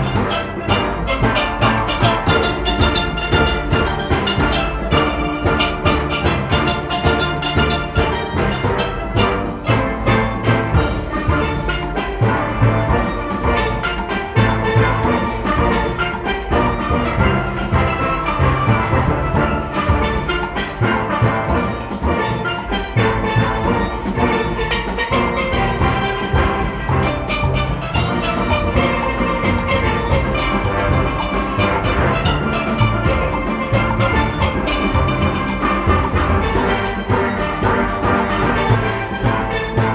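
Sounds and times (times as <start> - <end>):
drums rhythm section: 0.0 - 39.9
steelpans playing melody: 0.0 - 39.9.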